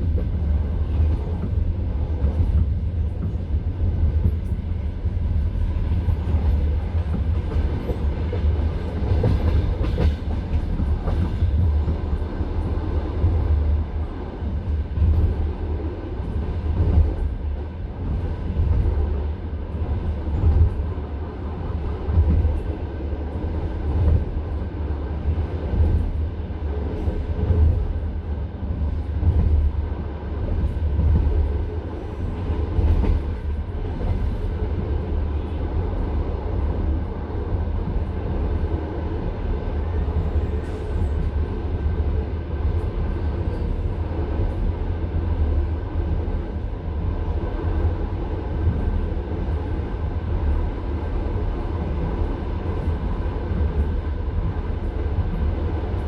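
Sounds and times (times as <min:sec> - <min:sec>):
railway carriage rumble: 0:00.0 - 0:56.0.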